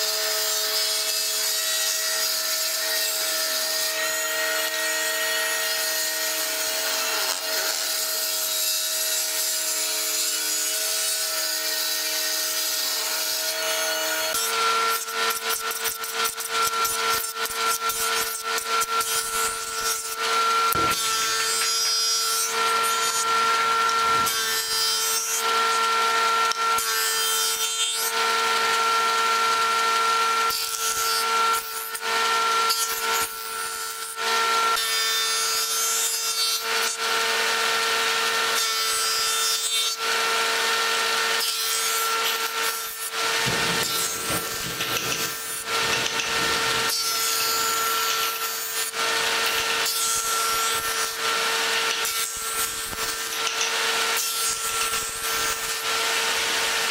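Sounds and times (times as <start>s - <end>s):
jointer motor whine: 0.0s - 56.9s
wood planing rasp: 0.0s - 56.9s.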